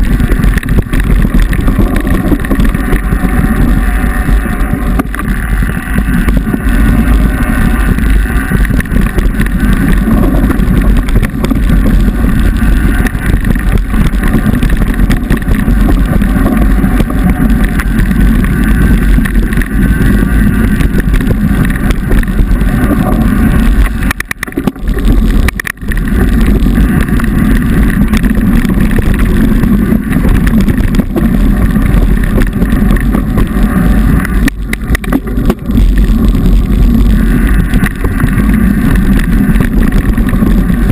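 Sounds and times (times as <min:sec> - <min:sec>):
mountain bike rattle and rumble: 0:00.0 - 0:40.9
wind buffeting microphone: 0:00.0 - 0:40.9.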